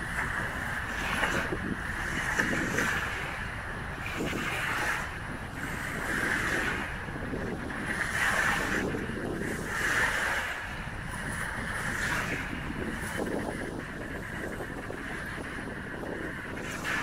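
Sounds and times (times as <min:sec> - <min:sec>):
small waves washing onto shore: 0:00.0 - 0:17.0
wind rumble on microphone: 0:00.0 - 0:17.0.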